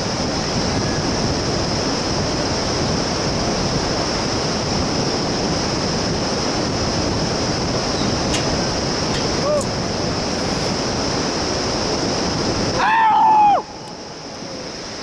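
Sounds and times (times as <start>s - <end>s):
distant river rapids roaring: 0.0s - 15.0s.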